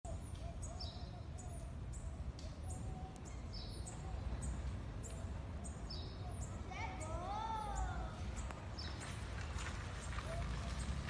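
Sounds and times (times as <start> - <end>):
birds chirping: 0.1 - 11.0.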